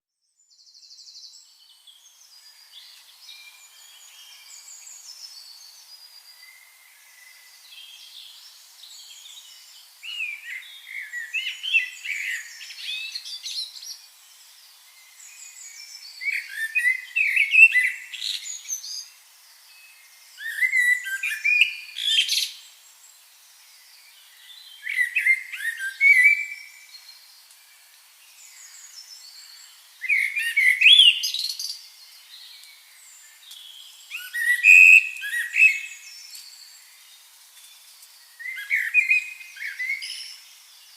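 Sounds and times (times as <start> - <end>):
faint bird chirping: 0.0 - 40.9
bird singing chirps and whistles: 2.3 - 14.3, 15.0 - 19.1, 19.7 - 22.8, 24.0 - 27.3, 28.3 - 36.9, 38.3 - 40.9.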